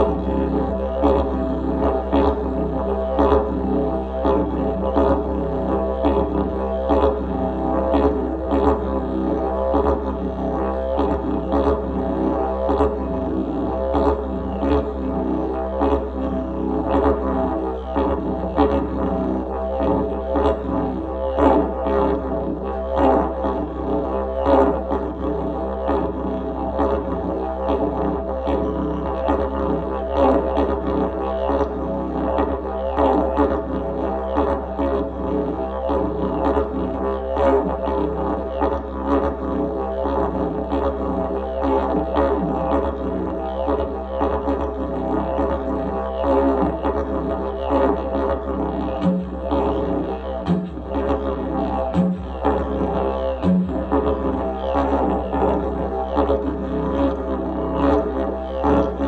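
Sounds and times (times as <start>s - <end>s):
didgeridoo drone: 0.0s - 59.0s
short higher didgeridoo toots: 0.0s - 59.0s.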